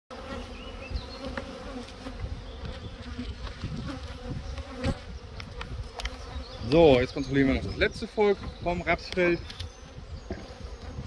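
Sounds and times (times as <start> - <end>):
bee flying past: 0.1 - 7.6, 9.2 - 11.0
honeybees buzzing: 0.1 - 11.0.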